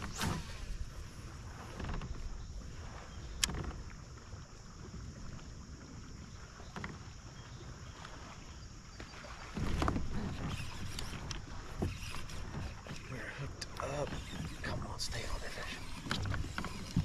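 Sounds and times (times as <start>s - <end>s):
water lapping at hull: 0.0s - 17.0s.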